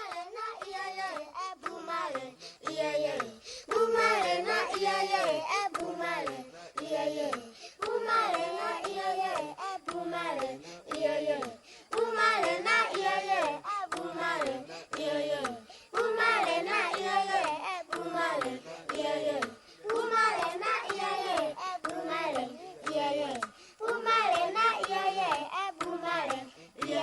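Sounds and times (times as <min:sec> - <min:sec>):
child singing: 0:00.0 - 0:27.0.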